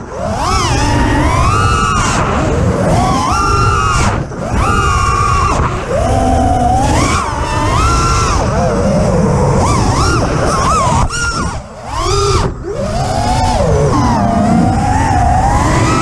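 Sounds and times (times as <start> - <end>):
drone motors whining: 0.0 - 16.0
wind rushing past microphone: 0.0 - 16.0.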